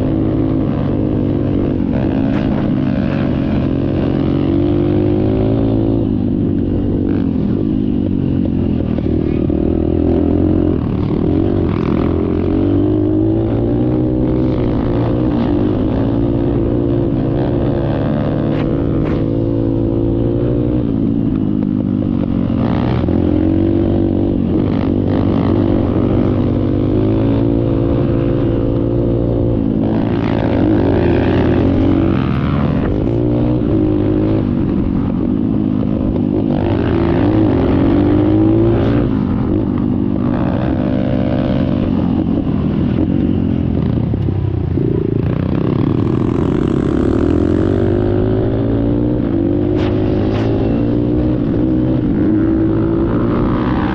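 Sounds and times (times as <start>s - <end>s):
dirt bike engine revving: 0.0s - 21.4s, 22.3s - 35.2s, 35.9s - 43.4s, 44.8s - 53.9s.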